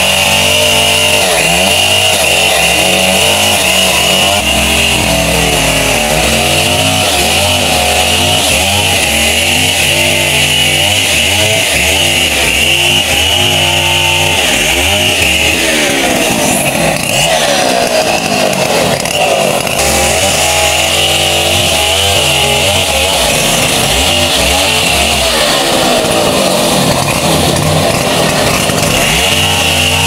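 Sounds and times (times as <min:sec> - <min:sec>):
chainsaw revving and sawing log: 0:00.0 - 0:30.0.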